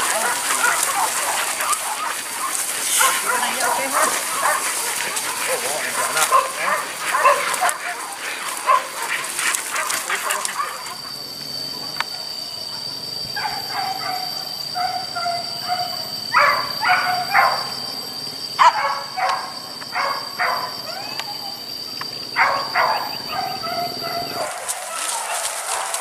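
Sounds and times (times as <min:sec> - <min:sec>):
dogs barking and yipping: 0:00.0 - 0:26.0
steady high-pitched whine: 0:00.0 - 0:26.0.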